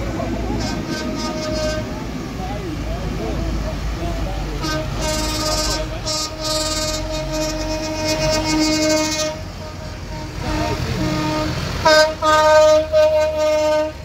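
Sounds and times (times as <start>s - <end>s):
tractor horns sounding: 0.0s - 2.4s, 4.4s - 14.0s
tractor engines running: 0.0s - 14.0s.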